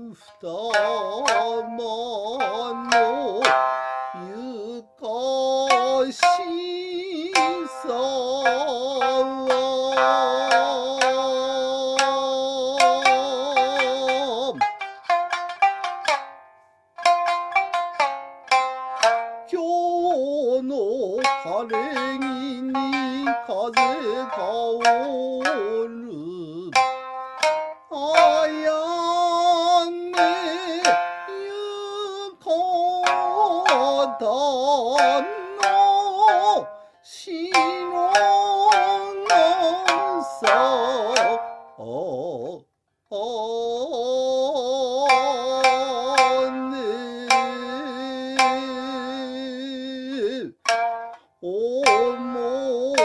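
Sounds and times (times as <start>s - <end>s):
shamisen plucks: 0.0s - 42.6s, 43.2s - 53.0s
person singing wavering notes: 0.0s - 53.0s.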